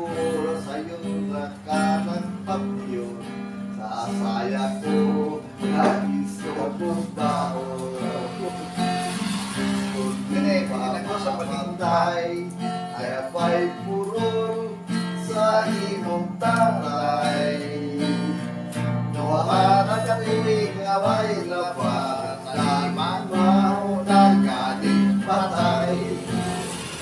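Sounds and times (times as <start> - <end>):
acoustic guitar: 0.0 - 27.0.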